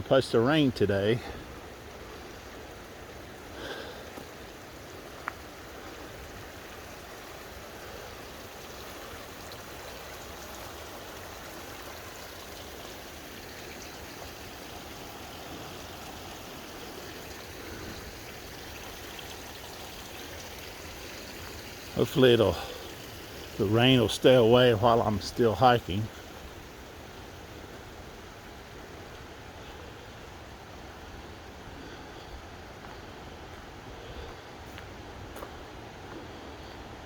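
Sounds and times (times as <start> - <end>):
creek water rushing: 0.0 - 37.0.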